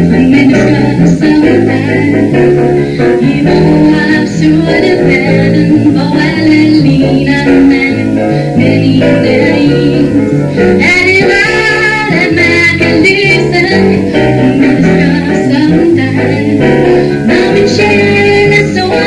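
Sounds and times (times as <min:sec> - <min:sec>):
person singing: 0:00.0 - 0:19.0
piano: 0:00.0 - 0:19.0.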